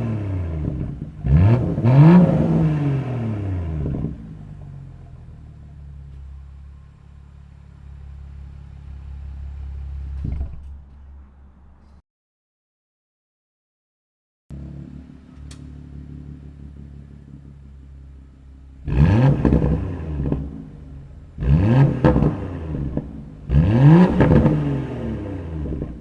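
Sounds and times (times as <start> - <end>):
car engine idling and revving: 0.0 - 12.0, 14.5 - 26.0.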